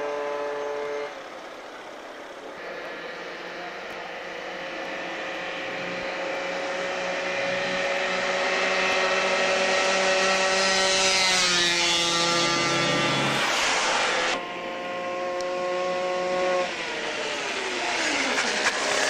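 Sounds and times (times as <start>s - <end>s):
two-stroke scooter engine revving: 0.0s - 19.0s.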